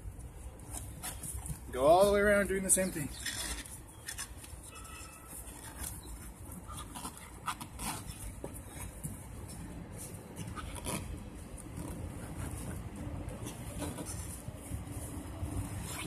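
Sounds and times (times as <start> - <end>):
faint rubbing of rubber tyre: 2.8 - 16.0.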